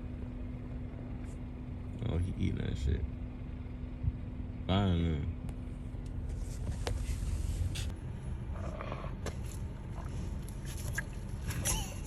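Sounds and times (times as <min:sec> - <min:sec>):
car idling rumble: 0:00.0 - 0:12.0.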